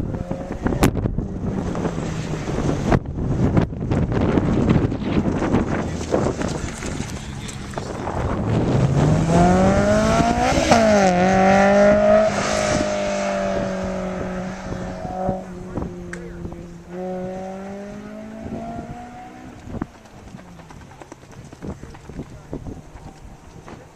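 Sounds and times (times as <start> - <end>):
sports car engine accelerating: 0.0 - 23.9.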